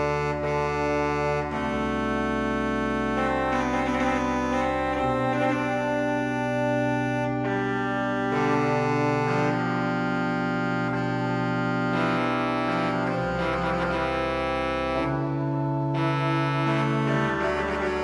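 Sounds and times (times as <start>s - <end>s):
church pipe organ chords: 0.0s - 18.0s
deep organ pedal note: 0.0s - 18.0s.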